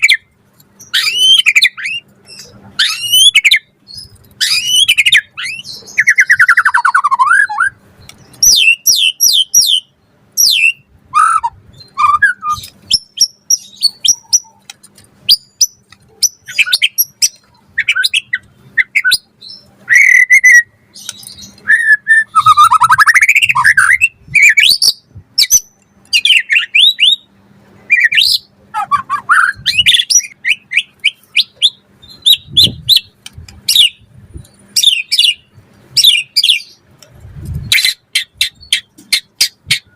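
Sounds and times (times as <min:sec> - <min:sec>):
songbird singing varied phrases: 0:00.0 - 0:36.9.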